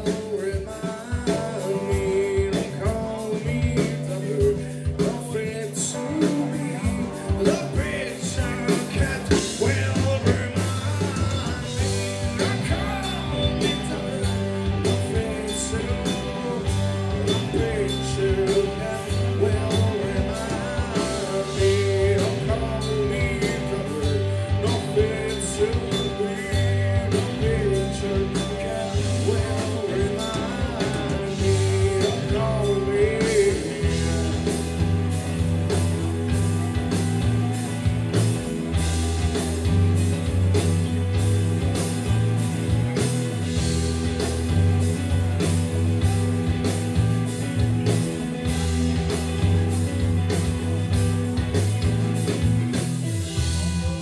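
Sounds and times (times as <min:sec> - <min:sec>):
person singing: 0:00.0 - 0:49.8, 0:53.2 - 0:54.0
live rock band playing: 0:00.0 - 0:54.0.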